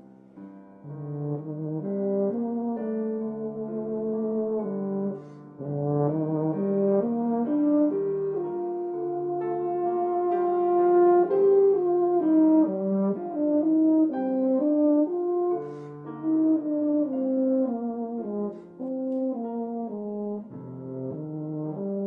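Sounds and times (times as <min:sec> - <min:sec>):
euphonium melody: 0:00.8 - 0:22.0.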